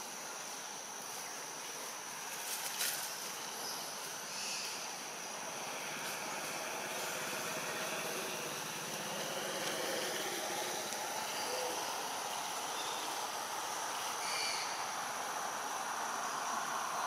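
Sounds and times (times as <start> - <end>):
forest ambience hiss: 0.0 - 17.0.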